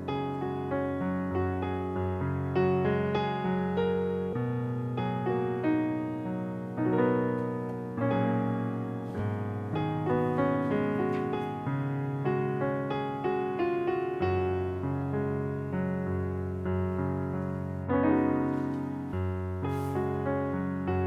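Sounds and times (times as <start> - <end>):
slow solo piano melody: 0.0 - 21.0.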